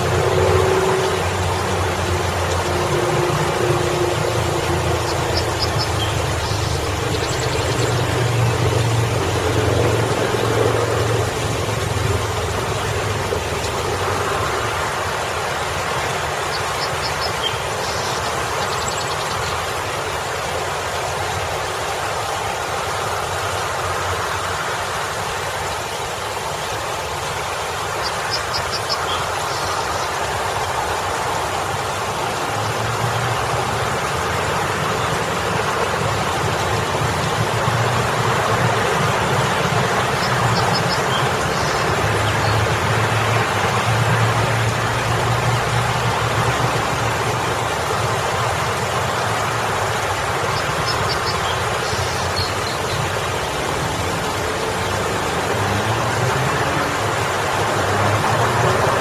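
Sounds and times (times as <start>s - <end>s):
fountain water splashing: 0.0s - 59.0s
road traffic rumble: 0.0s - 59.0s.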